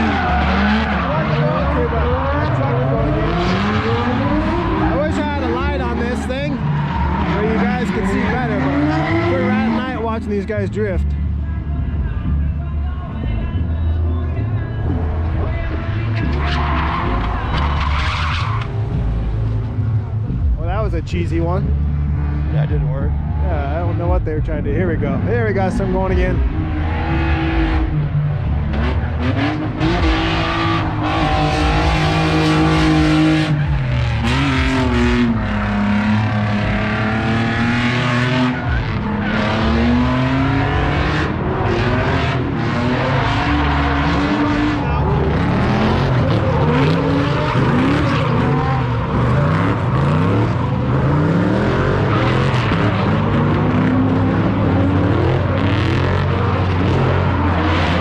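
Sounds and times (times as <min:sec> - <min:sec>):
tires squealing and skidding: 0:00.0 - 0:11.0, 0:14.4 - 0:20.0, 0:21.5 - 0:58.0
car engines revving: 0:00.0 - 0:58.0.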